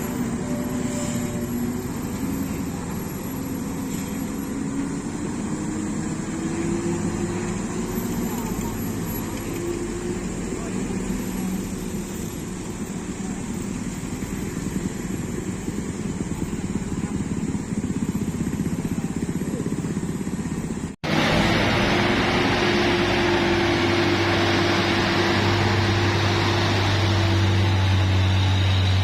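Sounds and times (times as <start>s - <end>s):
steady engine hum: 0.0s - 29.0s
truck engine running roughly: 0.0s - 29.0s.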